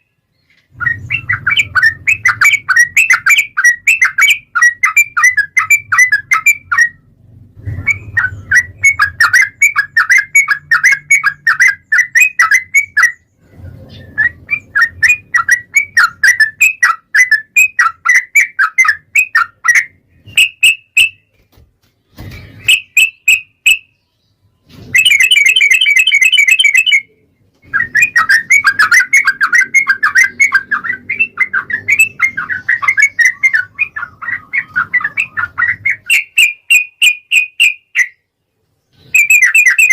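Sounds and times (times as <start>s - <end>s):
high bird trill: 0.0s - 21.4s, 22.2s - 38.3s, 38.9s - 39.9s
bird chirping: 0.0s - 39.9s.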